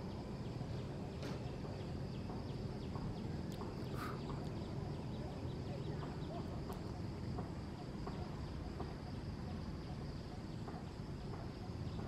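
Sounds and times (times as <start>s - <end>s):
faint chirps: 0.1s - 12.0s.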